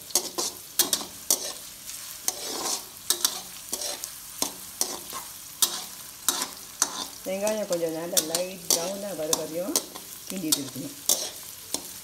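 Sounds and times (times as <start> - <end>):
metal spatula scraping a wok: 0.0 - 12.0
oil sizzling: 0.0 - 12.0.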